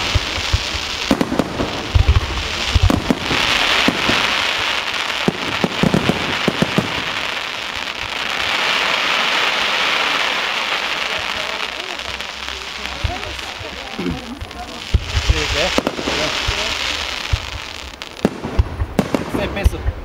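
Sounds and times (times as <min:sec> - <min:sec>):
deep firework booms: 0:00.0 - 0:20.0
firework bangs: 0:00.0 - 0:20.0
hissing crackle of fireworks: 0:00.0 - 0:20.0.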